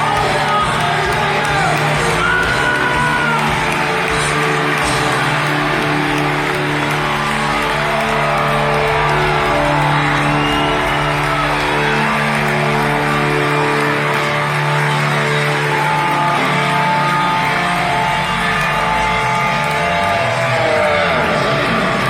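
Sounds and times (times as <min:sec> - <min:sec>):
electric guitars sustained chords: 0:00.0 - 0:22.0
live hard rock band: 0:00.0 - 0:22.0.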